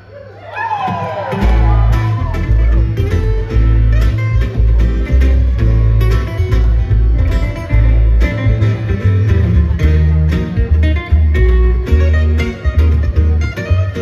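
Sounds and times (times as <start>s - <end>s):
acoustic guitars playing: 0.9s - 14.0s
double bass playing: 1.4s - 14.0s.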